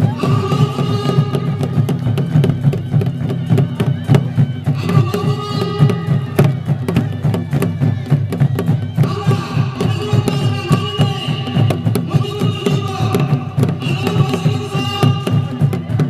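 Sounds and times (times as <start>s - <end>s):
fast drumming: 0.0s - 16.0s.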